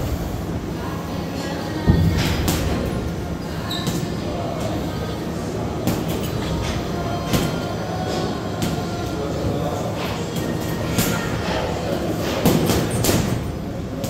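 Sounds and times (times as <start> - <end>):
room noise rumble: 0.0 - 14.0.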